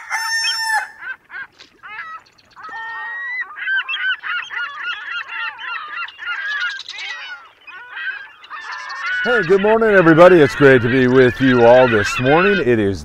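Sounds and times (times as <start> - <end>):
long loud bird call: 0.0 - 12.8
flock of birds calling: 0.0 - 13.0.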